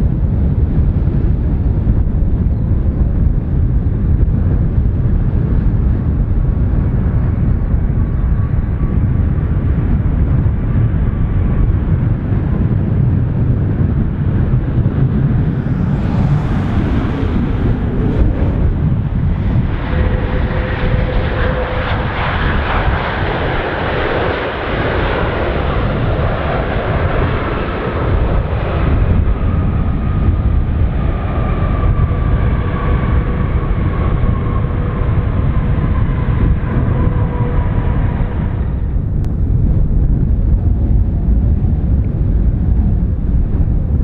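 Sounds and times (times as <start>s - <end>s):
jet engines rumbling and whining: 0.0s - 44.0s.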